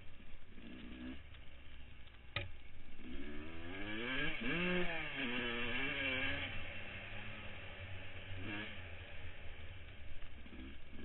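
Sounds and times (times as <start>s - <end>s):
motocross bike engine revving: 0.4s - 1.4s, 2.9s - 11.0s.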